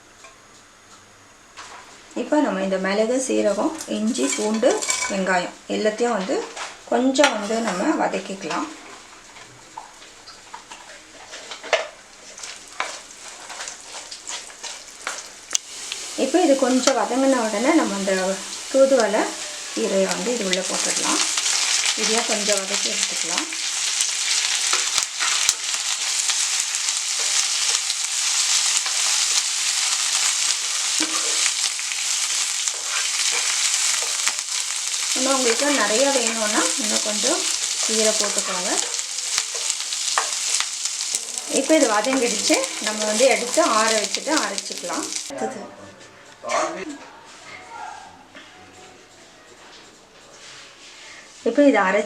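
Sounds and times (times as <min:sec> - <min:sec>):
food sizzling in oil: 0:03.2 - 0:45.4.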